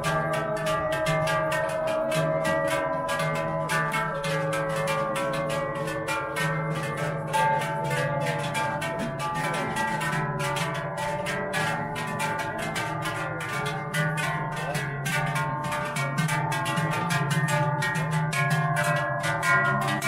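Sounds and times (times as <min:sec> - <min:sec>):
large cowbells clanging: 0:00.0 - 0:20.0.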